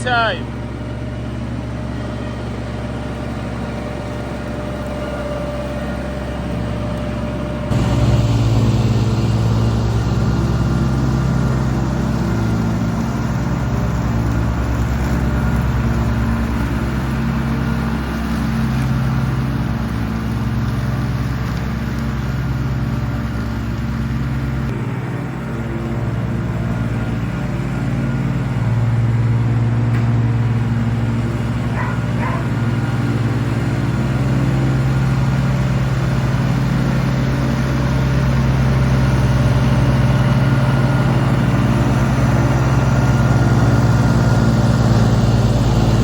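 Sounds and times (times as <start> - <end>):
ride-on mower engine: 0.0 - 46.0.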